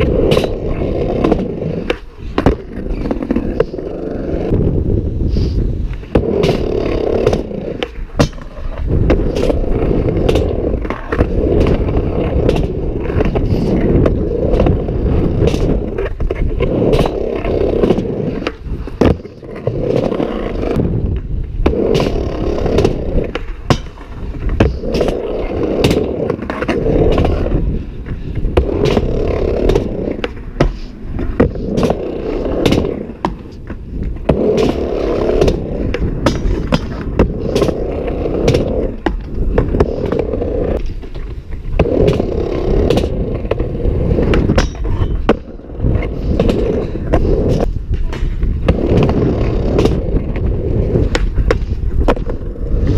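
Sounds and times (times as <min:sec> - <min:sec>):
skateboard wheels rolling on ramp: 0:00.0 - 0:52.9.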